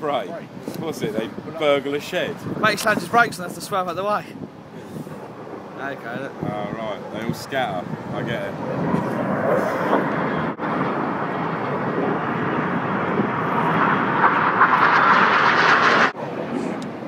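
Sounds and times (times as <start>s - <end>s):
jets roaring past: 0.3s - 17.0s.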